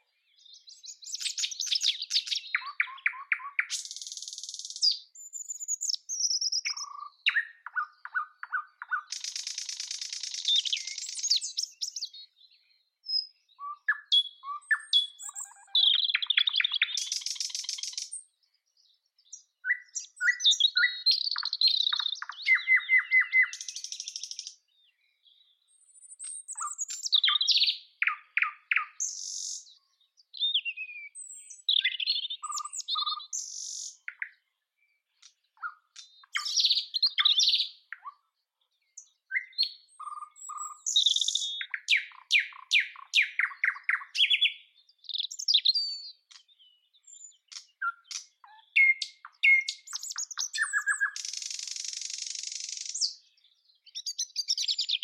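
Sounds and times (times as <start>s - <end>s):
nightingale singing: 0.0s - 55.0s.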